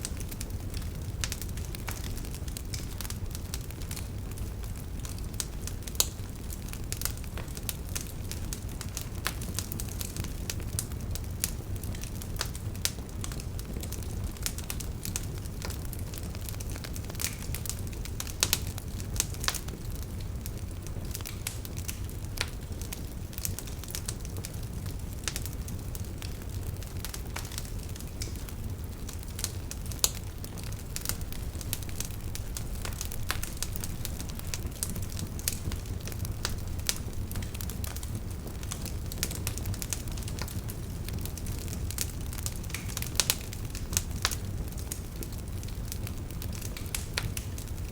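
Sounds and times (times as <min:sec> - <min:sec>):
fire crackling and popping: 0:00.0 - 0:47.9
wood fire rumbling: 0:00.0 - 0:47.9.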